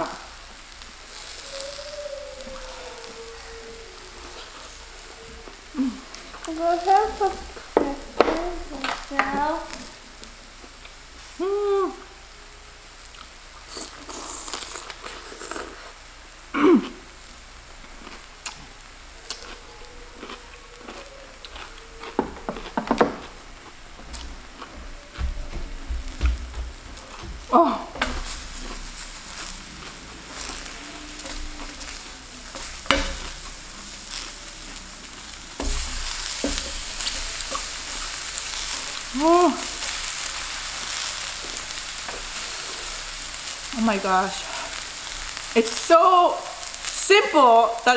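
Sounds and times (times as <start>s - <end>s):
zucchini sizzling on griddle: 0.0s - 47.9s.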